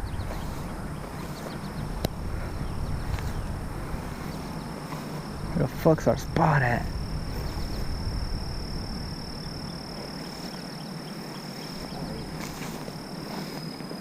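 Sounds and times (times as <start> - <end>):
insects trilling: 0.0 - 14.0
low rumbling noise: 0.0 - 14.0.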